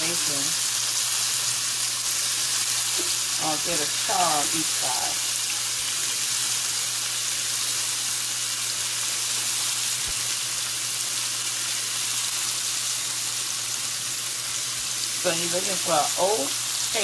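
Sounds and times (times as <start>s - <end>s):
shrimp sizzling in a skillet: 0.0s - 17.0s.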